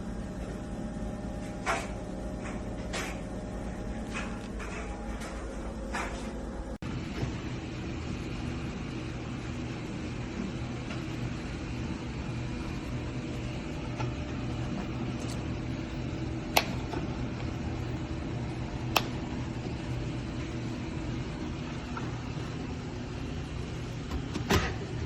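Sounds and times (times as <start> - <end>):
coffee urn humming: 0.0 - 25.0.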